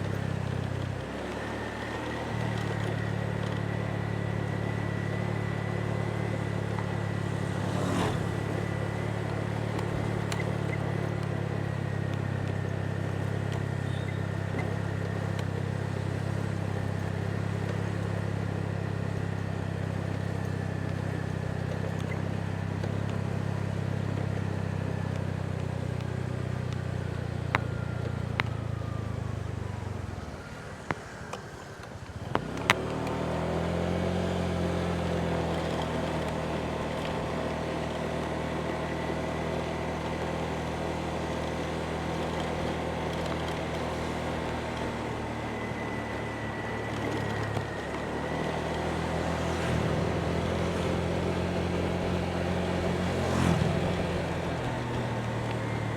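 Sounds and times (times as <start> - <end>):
motorbike engine running: 0.0 - 30.2, 31.6 - 55.9
road noise: 0.0 - 55.9.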